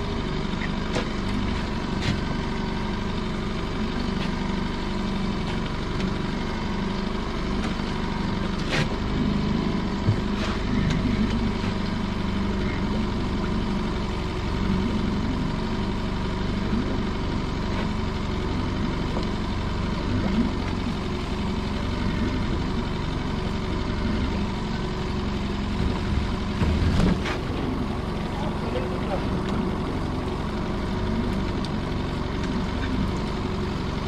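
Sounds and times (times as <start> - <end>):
faint constant whine: 0.0 - 34.0
winch motor running: 0.0 - 34.0.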